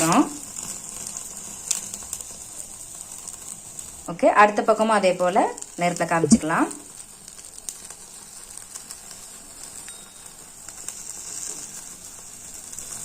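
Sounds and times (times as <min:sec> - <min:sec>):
chicken sizzling over flame: 0:00.0 - 0:13.0.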